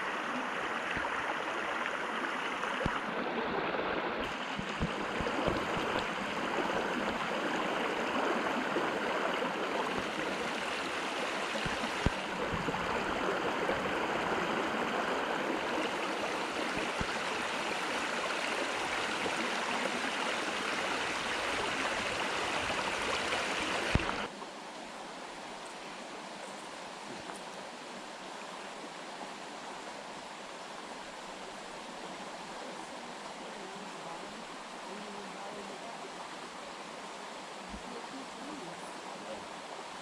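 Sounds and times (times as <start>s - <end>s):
river water rushing over rocks: 0.0s - 40.0s.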